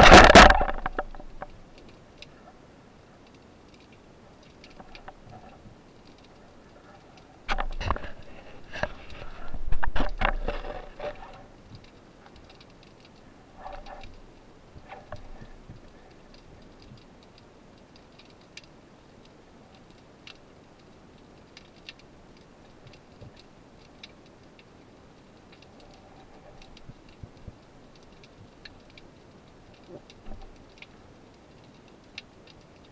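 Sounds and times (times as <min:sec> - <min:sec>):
underwater clicks and snaps: 0:00.0 - 0:02.5, 0:03.2 - 0:32.9.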